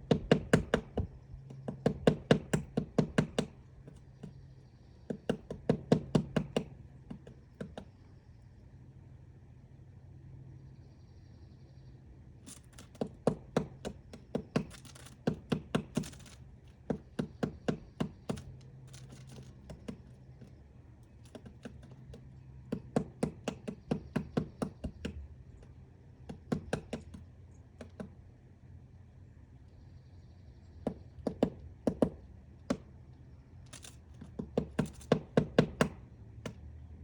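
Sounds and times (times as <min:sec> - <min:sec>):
woodpecker pecking wood: 0:00.0 - 0:08.1, 0:12.5 - 0:28.2, 0:30.7 - 0:36.7.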